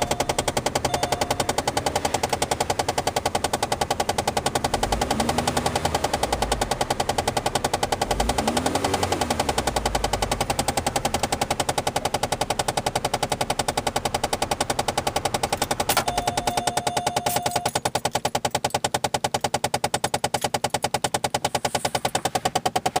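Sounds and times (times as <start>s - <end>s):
actuator rapid clicking: 0.0s - 23.0s.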